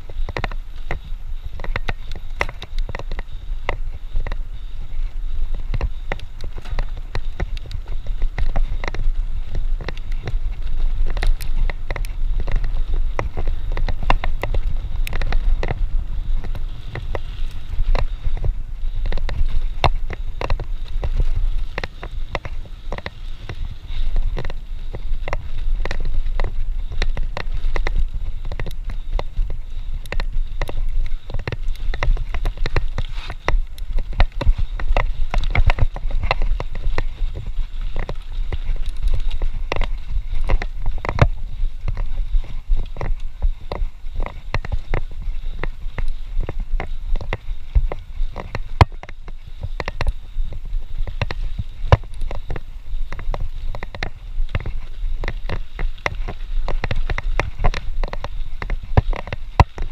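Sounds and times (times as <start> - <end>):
bike clicking and rattling: 0.0 - 59.9
wind buffeting microphone: 0.0 - 59.9.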